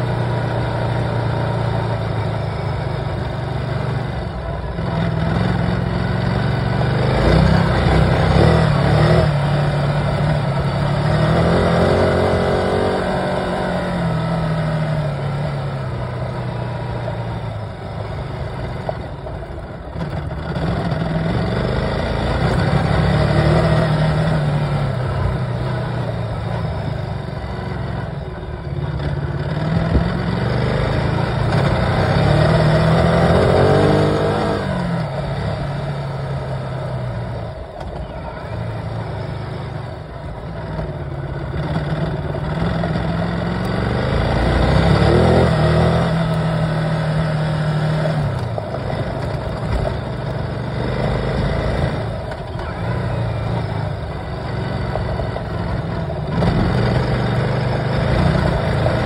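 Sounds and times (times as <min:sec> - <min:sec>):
tyres on gravel road: 0:00.0 - 0:59.0
vehicle engine running: 0:00.0 - 0:59.0.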